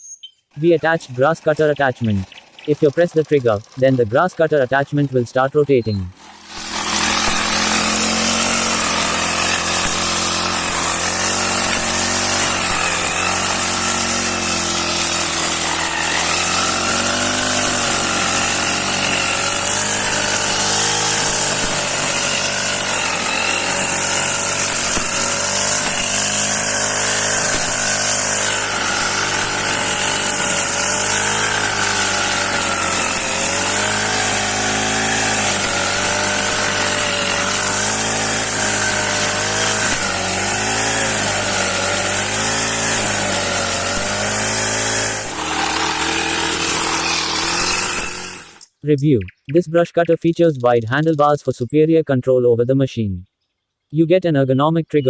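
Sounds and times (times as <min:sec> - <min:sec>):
brush cutter engine revving: 0:00.5 - 0:48.8.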